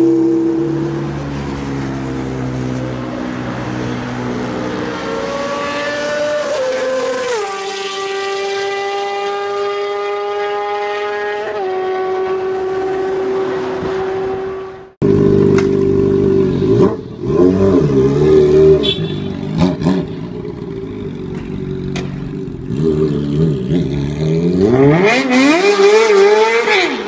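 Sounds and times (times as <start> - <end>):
motorcycle engine at high revs passing: 0.0 - 27.0.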